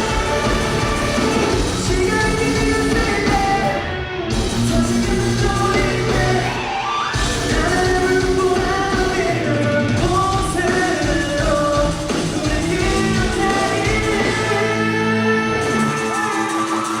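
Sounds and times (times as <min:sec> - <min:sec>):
live rock band: 0:00.0 - 0:17.0
person singing: 0:00.0 - 0:17.0.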